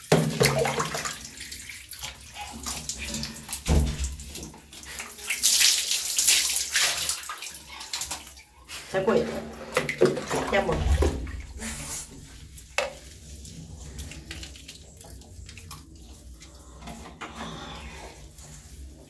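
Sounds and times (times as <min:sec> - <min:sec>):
shower water splashing: 0:00.0 - 0:19.0.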